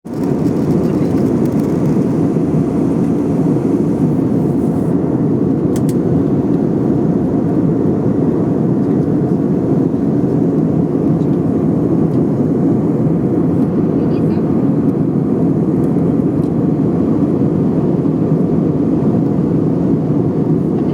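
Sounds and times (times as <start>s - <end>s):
jet engine cabin roar: 0.0s - 20.9s.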